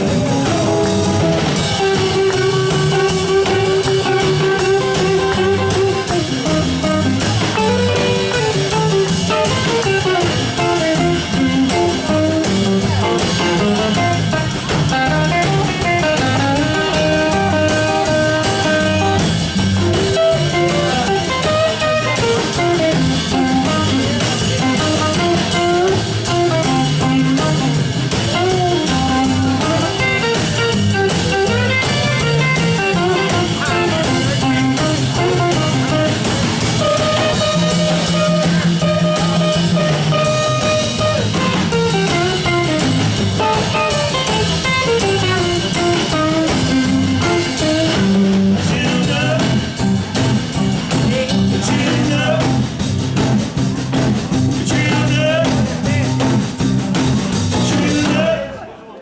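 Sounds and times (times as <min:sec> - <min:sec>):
electric guitar lead lines: 0:00.0 - 0:58.3
drum kit: 0:00.0 - 0:58.5
upright bass: 0:00.0 - 0:58.8.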